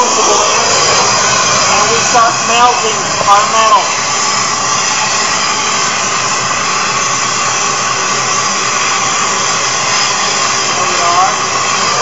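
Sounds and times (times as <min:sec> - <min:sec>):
torch flame rushing hiss: 0:00.0 - 0:12.0.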